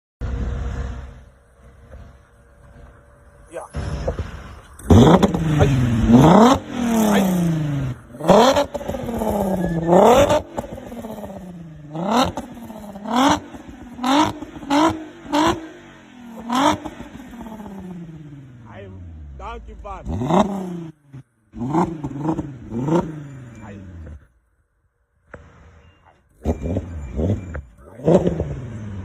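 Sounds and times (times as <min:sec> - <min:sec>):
car engine revving: 0:00.2 - 0:24.4, 0:25.3 - 0:29.0.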